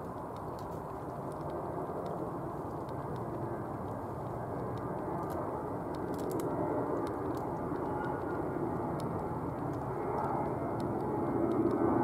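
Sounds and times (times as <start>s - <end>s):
distant jet rumble: 0.0s - 12.0s.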